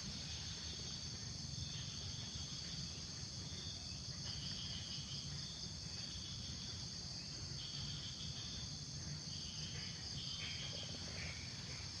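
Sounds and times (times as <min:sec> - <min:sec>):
insects chirring: 0:00.0 - 0:12.0
lower insect voice: 0:00.0 - 0:12.0.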